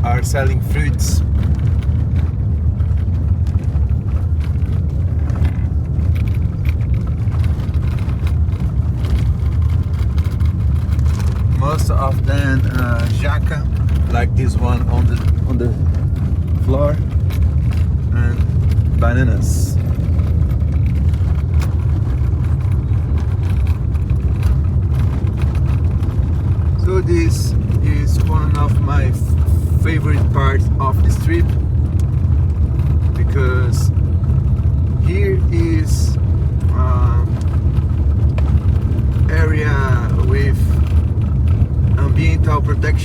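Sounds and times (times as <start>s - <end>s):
car road and engine rumble: 0.0s - 43.0s
light rattles: 0.0s - 43.0s.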